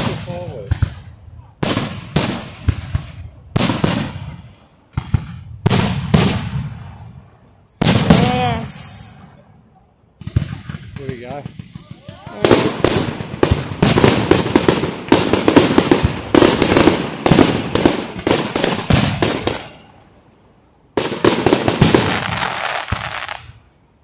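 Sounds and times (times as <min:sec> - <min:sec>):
fireworks bursting and crackling: 0:00.0 - 0:09.4, 0:10.2 - 0:20.2, 0:20.9 - 0:23.7.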